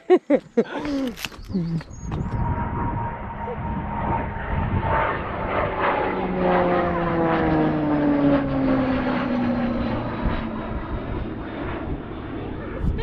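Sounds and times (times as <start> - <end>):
propeller plane flying past: 0.3 - 13.0.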